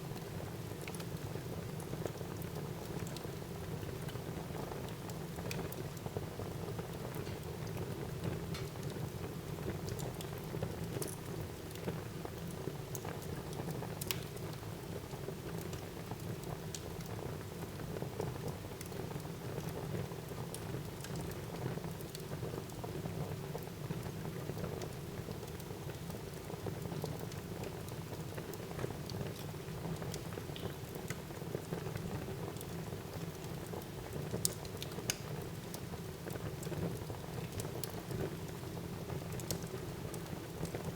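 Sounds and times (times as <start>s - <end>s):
wood fire crackling: 0.1s - 23.0s, 23.6s - 40.9s.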